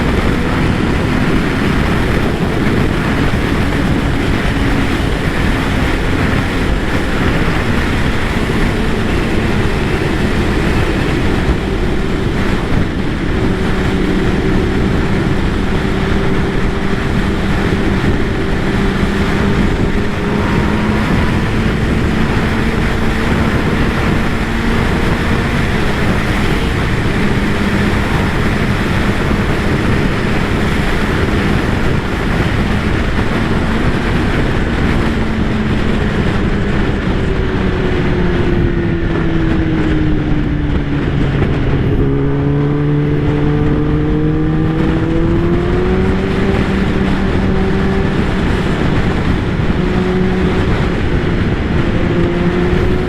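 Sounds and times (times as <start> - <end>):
motorcycle engine cruising: 0.0 - 53.0
wind noise on microphone: 0.0 - 53.0.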